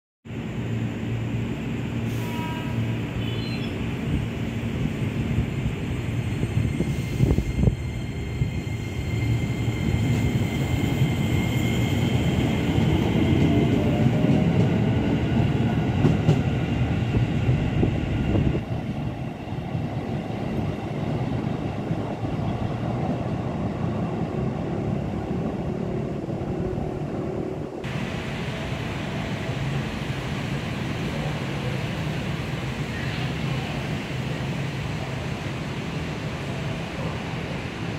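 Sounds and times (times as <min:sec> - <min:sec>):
high train whine: 0:00.3 - 0:37.9
train wheels rumbling on rails: 0:00.6 - 0:37.9.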